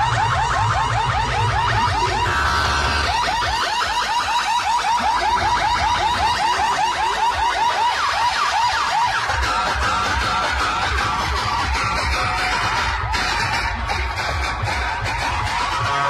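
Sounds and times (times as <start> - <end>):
electronic horn whoops: 0.0 - 16.0.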